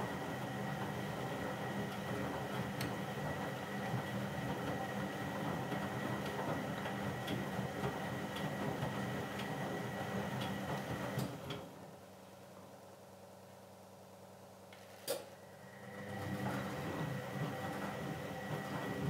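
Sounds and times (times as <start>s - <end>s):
washing machine motor hum: 0.0s - 12.2s, 15.4s - 19.0s.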